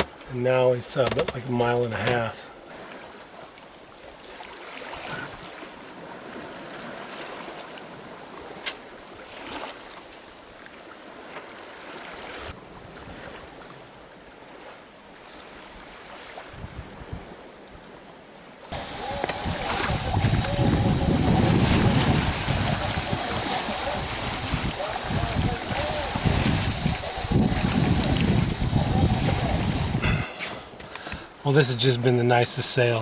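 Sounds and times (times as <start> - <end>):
water splashing along boat hull: 0.0 - 31.5
wind: 0.0 - 33.0.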